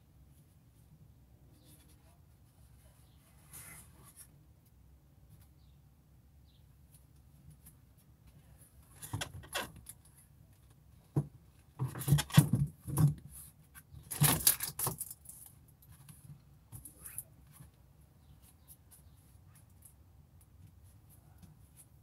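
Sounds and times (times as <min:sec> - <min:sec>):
rustling and scraping of objects: 0:00.2 - 0:04.4, 0:06.8 - 0:22.0.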